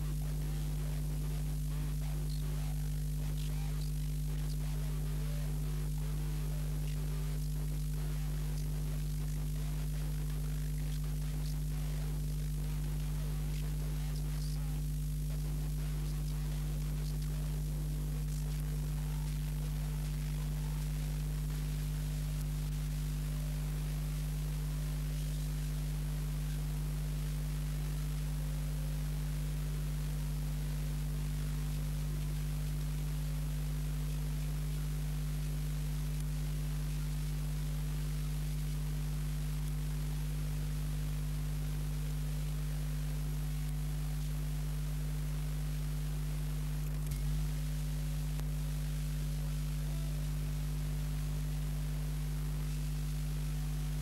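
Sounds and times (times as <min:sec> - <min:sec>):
electrical mains hum: 0:00.0 - 0:54.0
faint hiss: 0:00.0 - 0:54.0.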